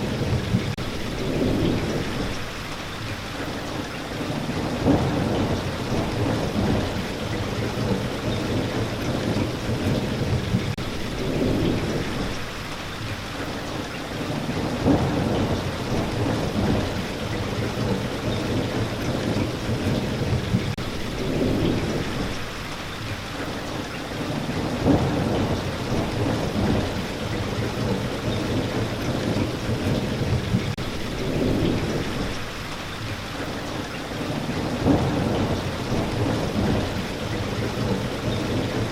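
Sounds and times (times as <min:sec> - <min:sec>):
thunder rumbling: 0:00.0 - 0:02.8, 0:04.1 - 0:12.6, 0:14.2 - 0:22.7, 0:24.2 - 0:33.1, 0:34.2 - 0:38.9
steady rain falling: 0:00.0 - 0:38.9.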